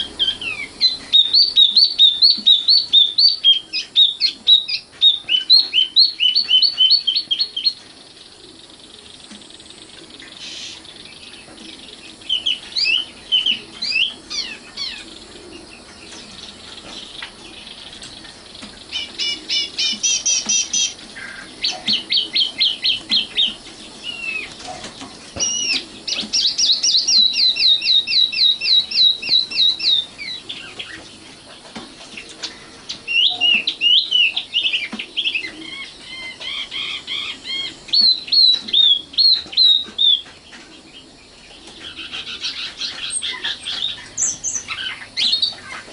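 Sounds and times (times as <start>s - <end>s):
nightingale singing: 0.0s - 45.9s.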